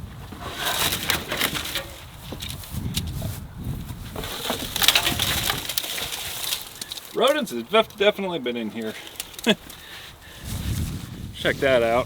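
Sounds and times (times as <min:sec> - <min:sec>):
dry debris crackling and rustling: 0:00.0 - 0:12.0.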